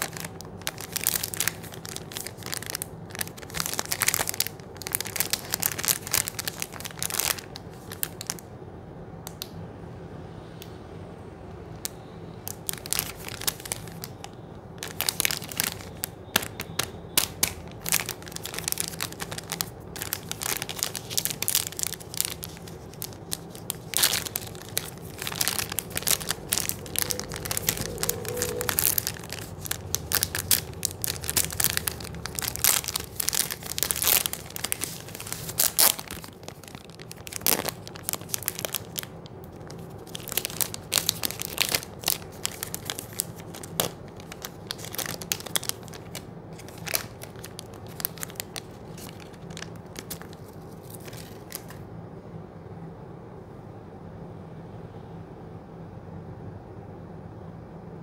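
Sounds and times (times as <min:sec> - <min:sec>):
wrapper tearing open: 0:00.0 - 0:08.4, 0:12.5 - 0:51.8
plastic wrapper crinkling: 0:00.0 - 0:08.5, 0:11.7 - 0:51.8.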